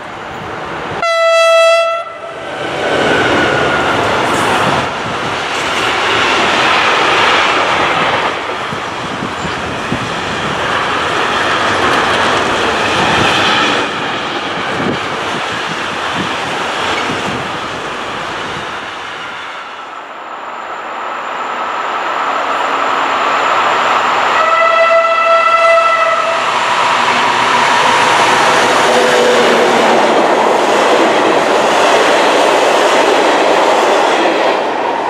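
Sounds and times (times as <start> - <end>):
freight train wheels rumbling: 0.0 - 35.0
train approaching: 0.0 - 35.0.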